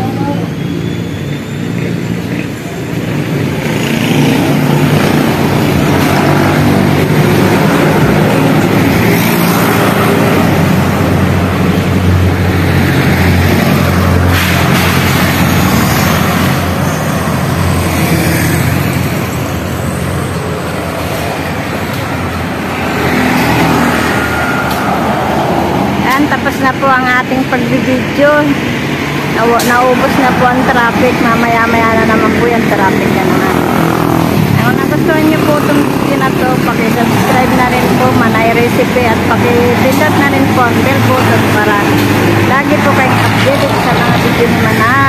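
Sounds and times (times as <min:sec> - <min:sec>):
traffic passing close by: 0:00.0 - 0:45.0.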